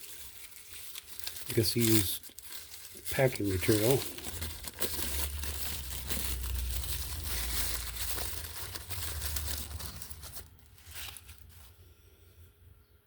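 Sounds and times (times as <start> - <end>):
packing material crinkling: 0.0 - 11.8.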